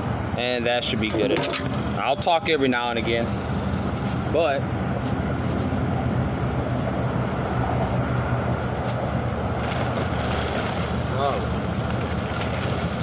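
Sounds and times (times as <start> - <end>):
low rumbling hum: 0.0 - 13.0.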